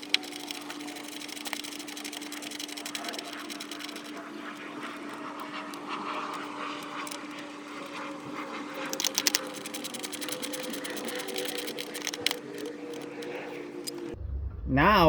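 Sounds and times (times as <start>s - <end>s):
ratchet clicking: 0.0s - 14.2s
steady low hum: 0.0s - 15.0s.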